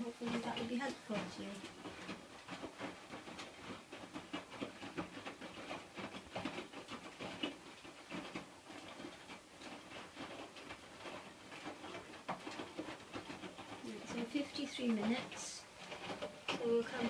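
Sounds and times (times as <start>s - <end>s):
washing machine pattering and clicking: 0.0s - 17.0s.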